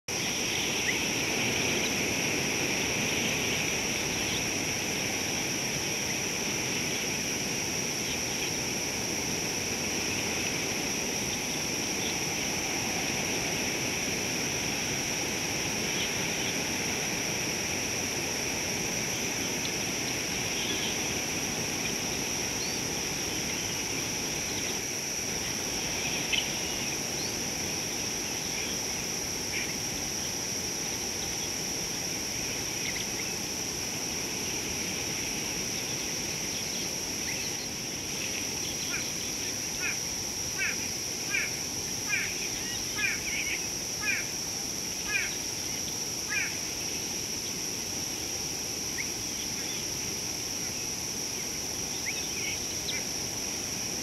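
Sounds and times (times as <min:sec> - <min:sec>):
high-pitched insect chorus: 0:00.1 - 0:54.0
low rushing hiss: 0:00.1 - 0:54.0.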